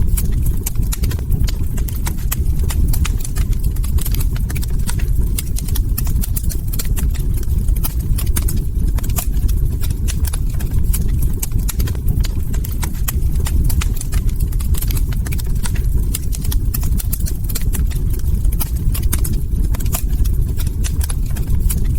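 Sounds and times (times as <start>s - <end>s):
log fire crackling: 0.0s - 21.9s
low rumble of burning wood: 0.0s - 21.9s.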